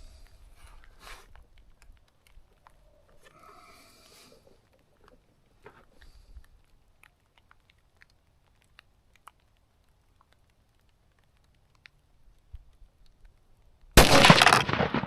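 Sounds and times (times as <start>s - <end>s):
raindrops pattering: 0.0s - 15.0s.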